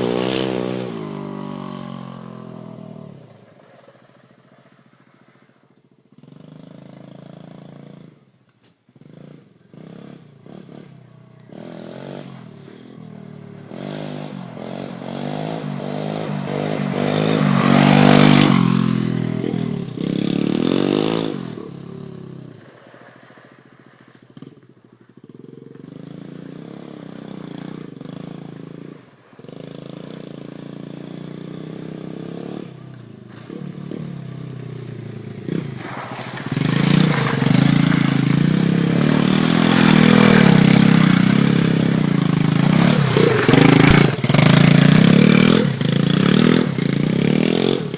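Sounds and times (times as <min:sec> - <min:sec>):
pit bike engine revving: 0:00.0 - 0:03.2, 0:09.0 - 0:22.6, 0:23.5 - 0:47.9.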